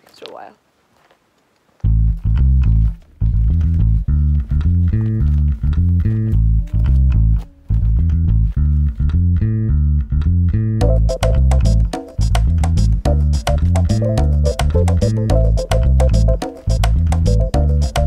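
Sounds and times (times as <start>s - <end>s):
guitar: 1.8s - 18.0s
loud bass guitar line: 1.9s - 18.0s.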